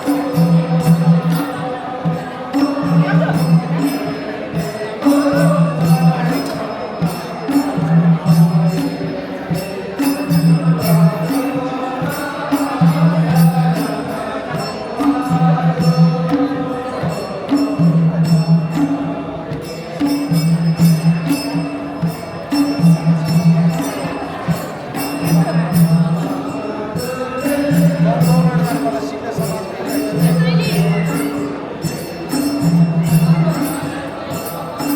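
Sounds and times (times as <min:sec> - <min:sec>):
jingling percussion: 0:00.0 - 0:34.9
voices singing folk song: 0:00.0 - 0:34.9.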